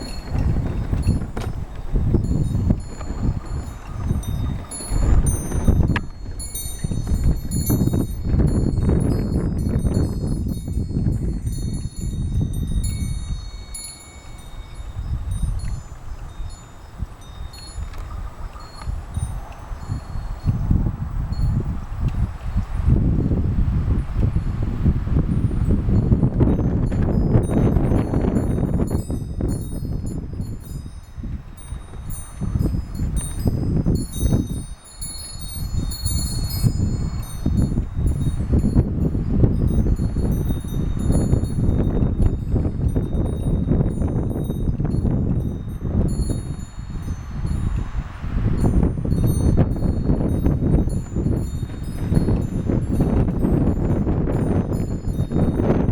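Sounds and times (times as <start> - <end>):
wind chimes ringing: 0.0 - 22.6, 25.2 - 55.9
gusting wind buffeting microphone: 0.0 - 55.9.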